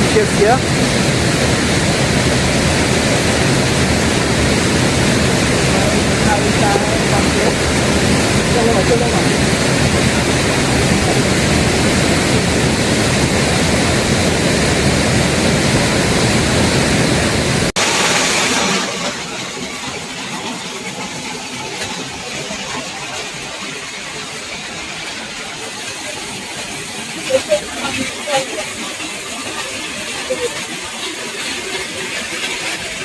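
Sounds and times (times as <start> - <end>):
rushing river water: 0.0 - 33.0.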